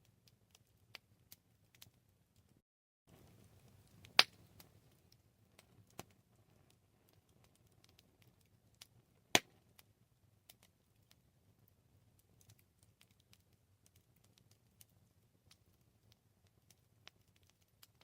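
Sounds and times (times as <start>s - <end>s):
campfire wood crackling: 0.0s - 18.0s.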